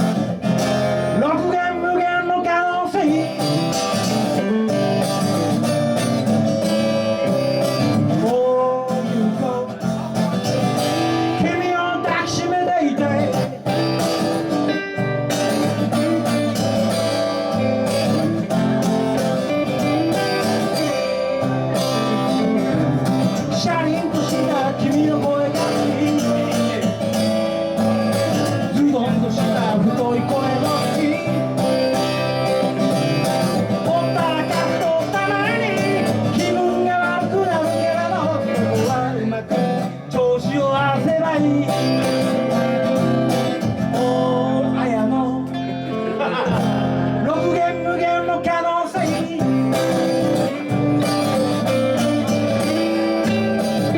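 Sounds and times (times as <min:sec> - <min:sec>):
guitar: 0:00.0 - 0:53.9
person singing: 0:01.0 - 0:53.9.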